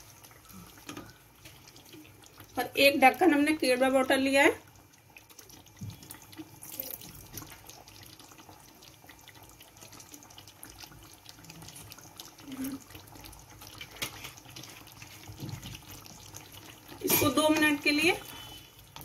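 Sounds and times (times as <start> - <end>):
bubbling hiss with small pops: 0.0 - 19.0
gravy simmering in a pot: 0.0 - 19.0.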